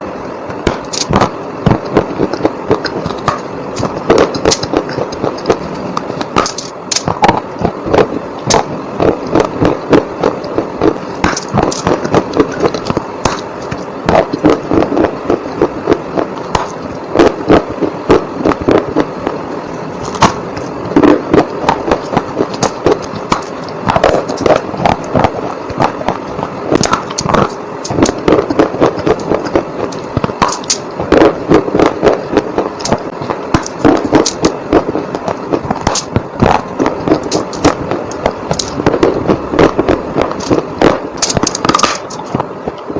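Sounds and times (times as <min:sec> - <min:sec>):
background hiss: 0:00.0 - 0:42.9.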